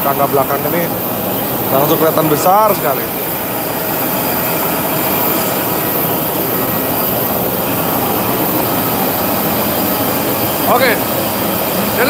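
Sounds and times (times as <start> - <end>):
airliner auxiliary power unit hum: 0.0 - 12.0.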